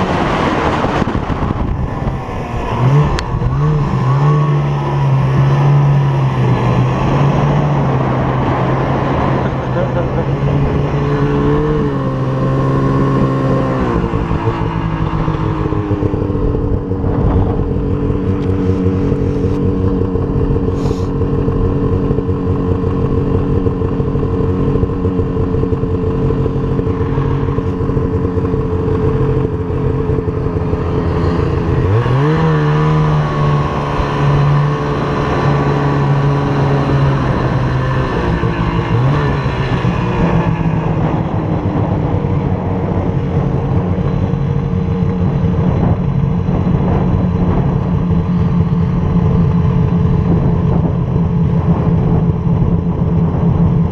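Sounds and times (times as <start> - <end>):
snowmobile engine: 0.0 - 53.9.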